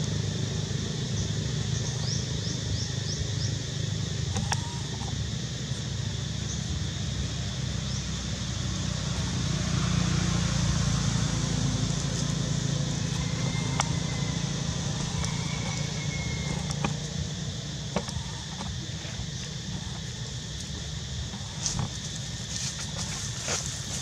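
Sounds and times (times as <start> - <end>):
low engine-like hum: 0.0 - 24.0.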